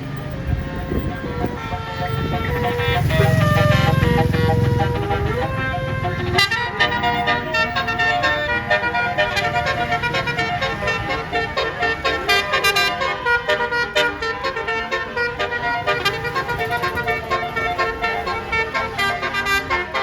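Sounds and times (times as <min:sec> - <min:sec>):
bus horn playing a tune: 0:00.0 - 0:20.0
low engine rumble: 0:00.0 - 0:20.0.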